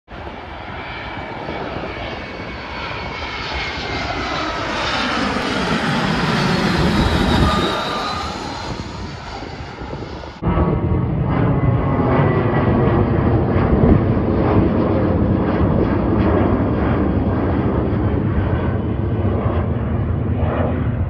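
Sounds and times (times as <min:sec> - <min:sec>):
jet engines passing overhead: 0:00.1 - 0:21.0.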